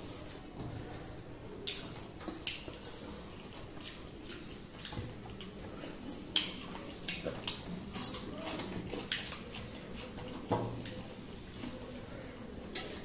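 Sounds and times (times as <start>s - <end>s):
fingers mixing wet rice: 0.0s - 13.0s
chewing and lip smacks: 0.8s - 13.0s.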